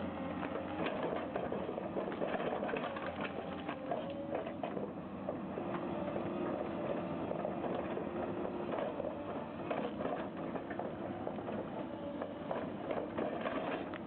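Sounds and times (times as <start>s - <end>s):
heavy machinery humming: 0.0s - 14.0s.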